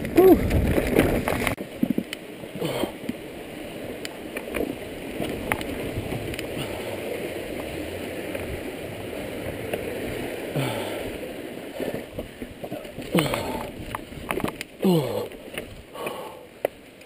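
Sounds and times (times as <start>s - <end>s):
bike tyre rumble: 0.0s - 17.0s.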